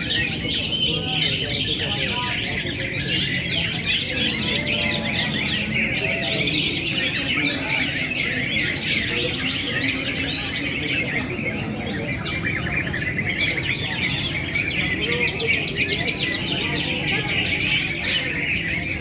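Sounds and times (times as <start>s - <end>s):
murmur of crowd: 0.0s - 19.0s
songbirds singing and chirping: 0.0s - 19.0s.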